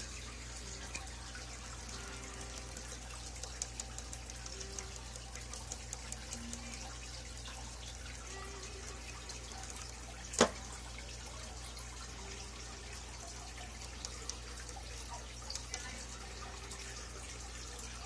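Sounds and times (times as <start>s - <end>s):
aquarium water trickling: 0.0s - 18.0s
small drip ticks: 0.0s - 18.0s.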